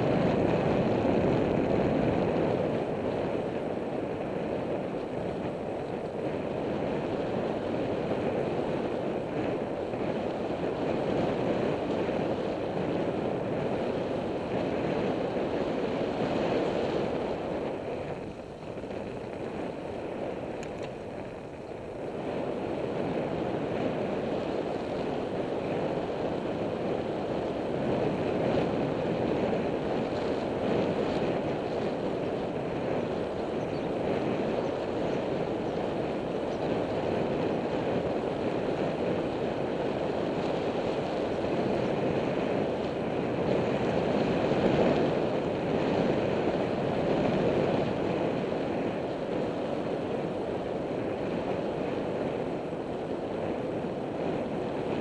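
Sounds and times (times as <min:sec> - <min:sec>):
bicycle road noise: 0:00.0 - 0:55.0
wind rushing over microphone: 0:00.0 - 0:55.0.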